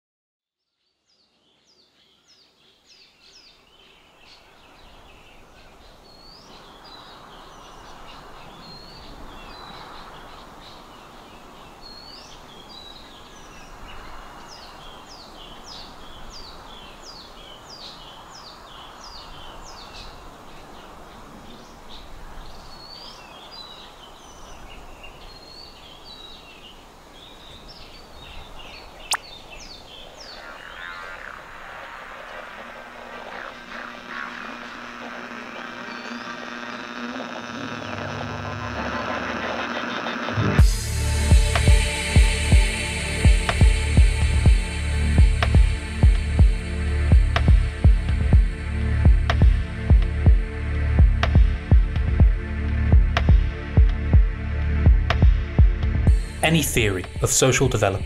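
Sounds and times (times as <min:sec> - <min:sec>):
small birds chirping and singing: 0:00.6 - 0:48.6
outdoor background noise: 0:00.6 - 0:58.0.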